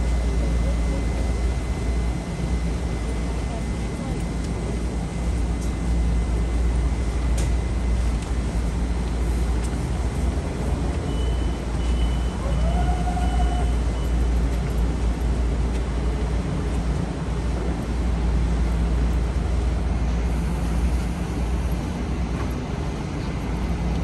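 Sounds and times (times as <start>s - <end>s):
train equipment humming: 0.0s - 24.0s.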